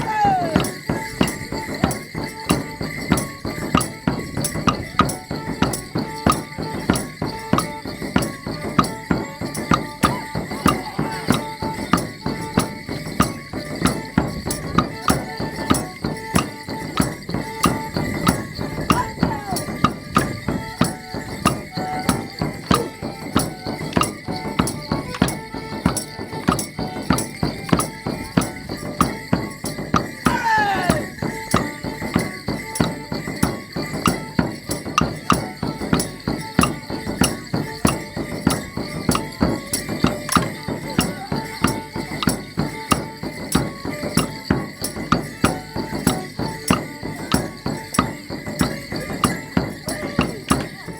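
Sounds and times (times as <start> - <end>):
folk band playing: 0.0 - 50.9
held reed-like notes: 0.0 - 50.9
sharp clacks keeping beat: 0.0 - 50.9
sharp rhythmic strikes: 0.0 - 50.9.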